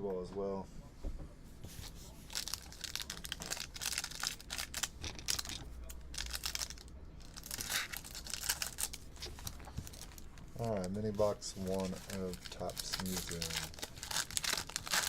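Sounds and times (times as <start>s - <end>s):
plastic wrap crinkling and tearing: 1.8s - 15.0s.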